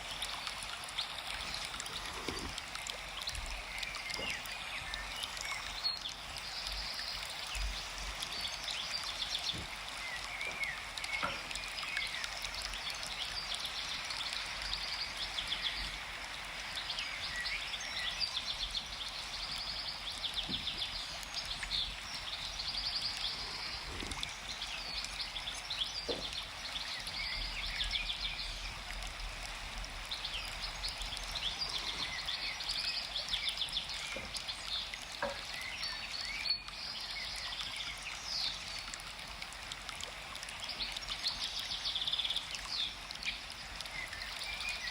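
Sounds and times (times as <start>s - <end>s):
small birds chirping and trilling: 0.0s - 39.3s, 40.4s - 44.9s.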